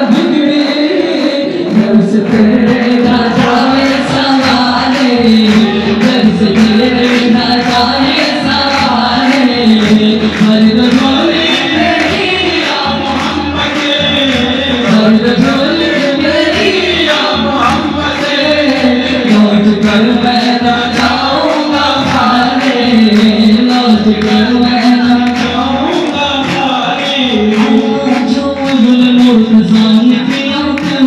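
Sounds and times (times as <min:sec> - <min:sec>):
frame drum beats: 0:00.0 - 0:31.0
men singing devotional song: 0:00.0 - 0:31.0.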